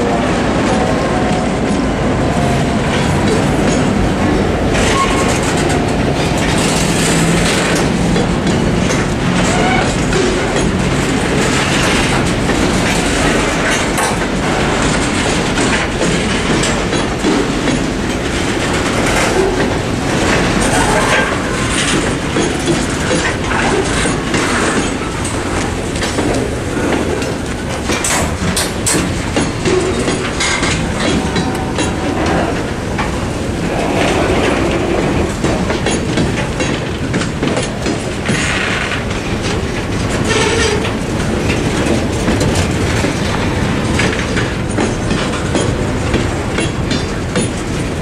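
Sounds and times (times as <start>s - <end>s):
freight train wheels rumbling: 0.0s - 48.0s
wheels clicking over rail joints: 0.0s - 48.0s.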